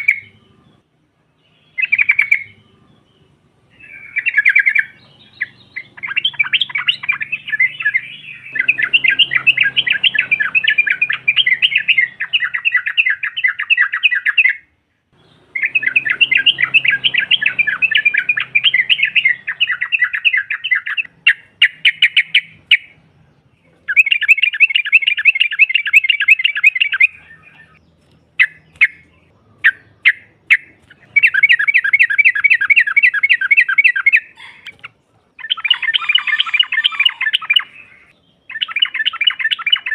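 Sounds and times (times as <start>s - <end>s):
bulbul chattering call: 1.4s - 39.9s.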